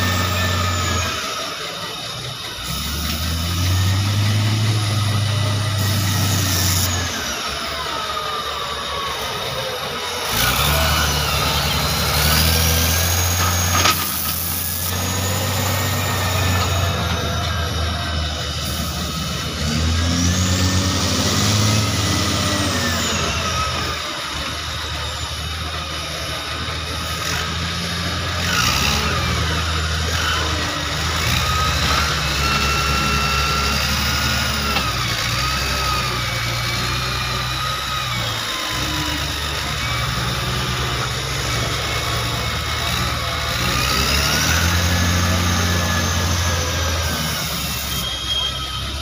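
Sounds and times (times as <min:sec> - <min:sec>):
diesel engine revving: 0:00.0 - 0:49.0.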